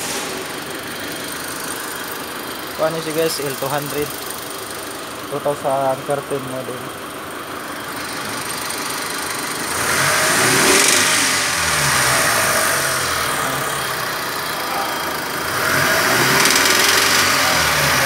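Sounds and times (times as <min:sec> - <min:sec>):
engine revving: 0:00.0 - 0:06.9, 0:07.8 - 0:18.0
engine rattle under acceleration: 0:00.0 - 0:18.0.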